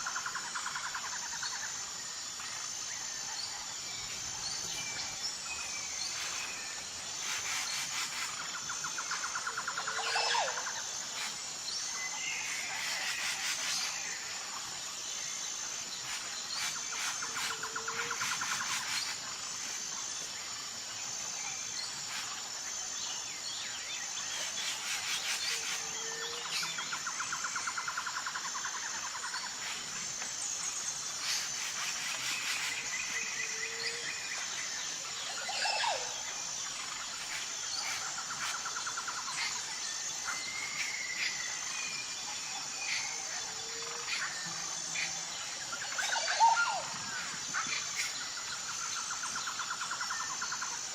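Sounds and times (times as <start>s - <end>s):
high insect trill: 0.0s - 50.9s.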